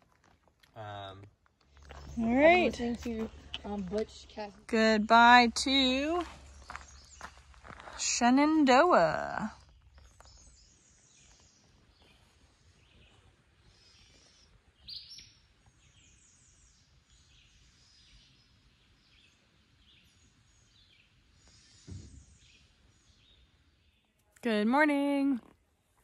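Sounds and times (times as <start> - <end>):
birds chirping: 1.0 - 25.3.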